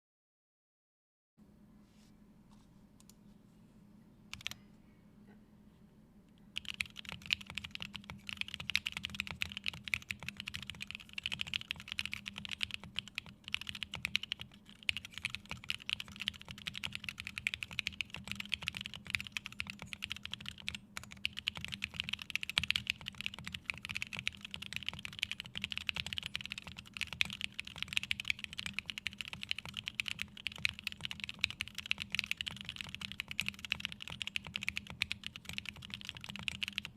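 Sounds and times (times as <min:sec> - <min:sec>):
typing on mechanical keyboard: 0:04.3 - 0:04.6, 0:06.6 - 0:36.9.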